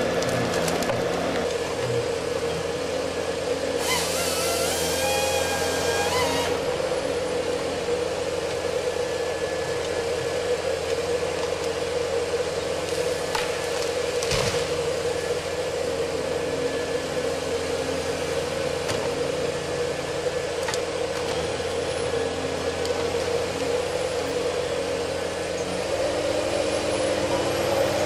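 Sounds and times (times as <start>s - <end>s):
heavy machine engine running: 0.0s - 28.0s.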